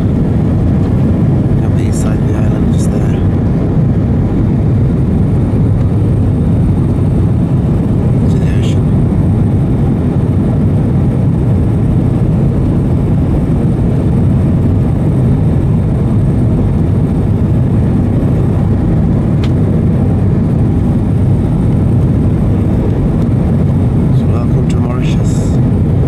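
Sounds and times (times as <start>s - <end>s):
jet cabin rumble: 0.0s - 26.0s.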